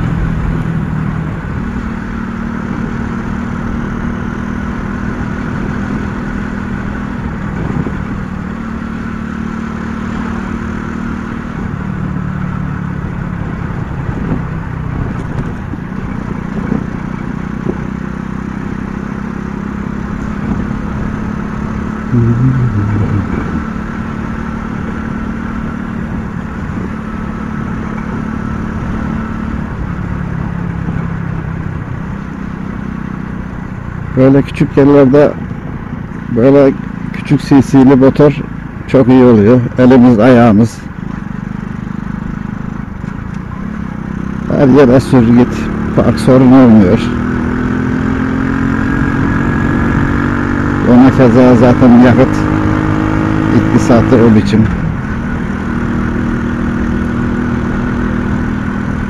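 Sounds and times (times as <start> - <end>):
motorcycle engine running: 0.0 - 37.8, 38.4 - 59.0.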